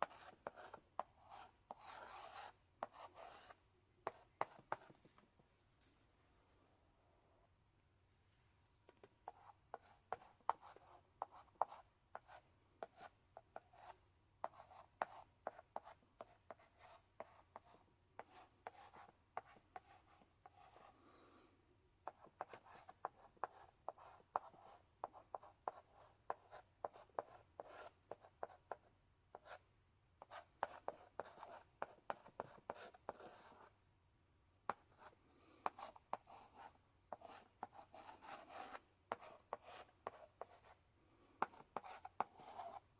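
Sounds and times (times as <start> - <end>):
chalk writing on blackboard: 0.0 - 5.0, 9.3 - 21.0, 22.1 - 29.6, 30.2 - 33.7, 34.7 - 42.8.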